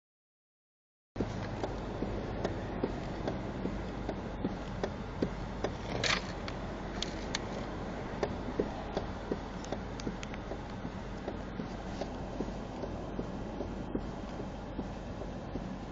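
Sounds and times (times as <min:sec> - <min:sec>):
car engine idling: 0:01.2 - 0:15.9
light regular ticks: 0:01.3 - 0:15.7.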